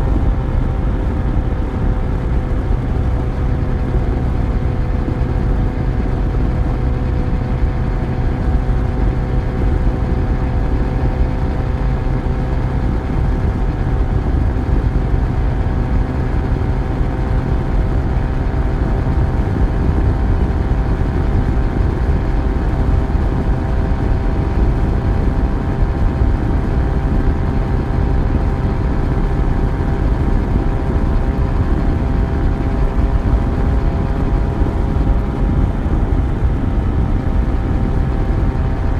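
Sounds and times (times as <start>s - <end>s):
motorcycle engine running: 0.0s - 38.9s
steady rushing noise: 0.0s - 38.9s.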